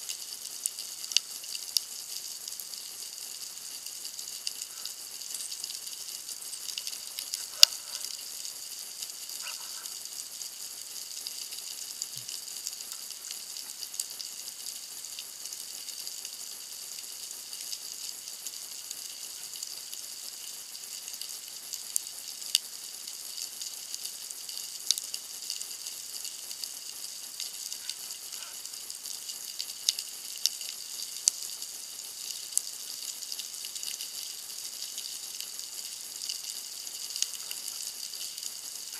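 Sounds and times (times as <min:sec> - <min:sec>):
underwater crackling hiss: 0:00.0 - 0:38.9.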